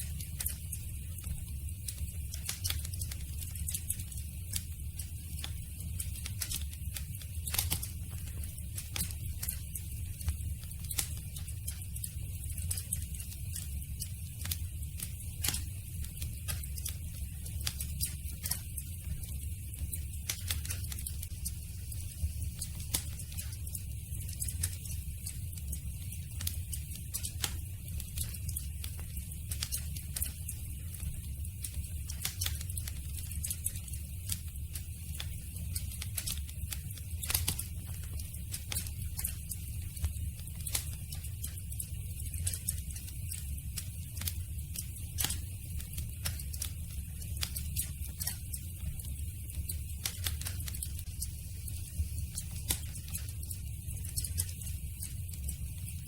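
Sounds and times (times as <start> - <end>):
low fire rumble: 0.0 - 55.9
campfire crackling and popping: 0.1 - 51.2, 52.1 - 55.6.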